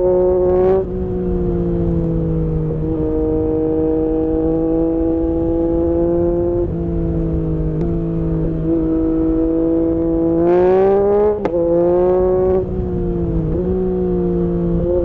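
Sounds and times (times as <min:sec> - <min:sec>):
motorcycle engine at high speed: 0:00.0 - 0:15.0.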